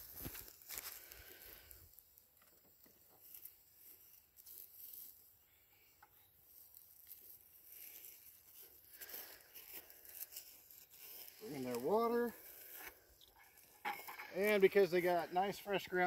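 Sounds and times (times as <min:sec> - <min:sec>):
faint rustling: 0:00.0 - 0:16.0.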